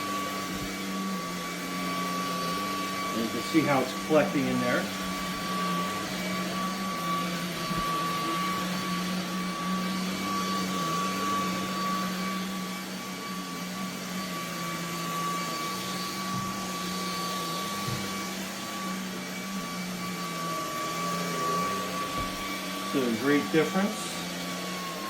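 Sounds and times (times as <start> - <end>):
cordless vacuum motor whine: 0.0 - 25.0.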